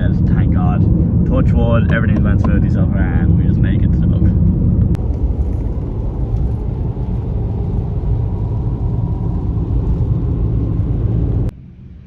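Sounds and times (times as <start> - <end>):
road and engine noise inside car: 0.0 - 12.0.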